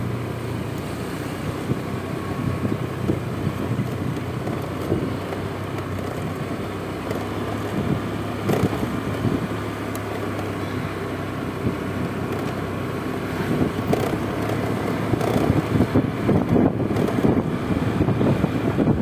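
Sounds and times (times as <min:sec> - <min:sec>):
scooter engine running: 0:00.0 - 0:19.0
wind buffeting microphone: 0:01.2 - 0:19.0.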